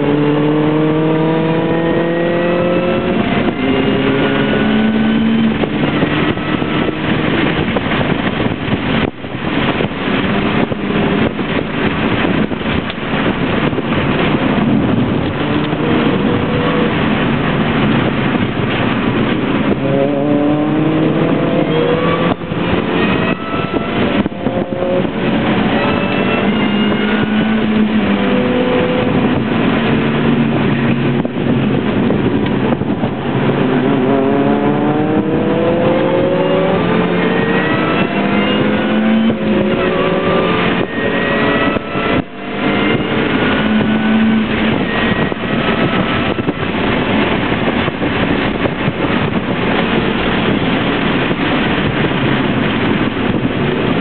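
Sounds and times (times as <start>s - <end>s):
car engine accelerating: 0.0s - 54.0s
road and wind noise: 0.0s - 54.0s.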